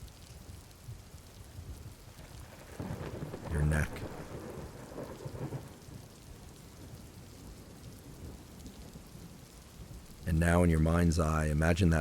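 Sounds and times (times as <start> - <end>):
steady rain: 0.0 - 12.0
low rumble of thunder: 0.8 - 12.0.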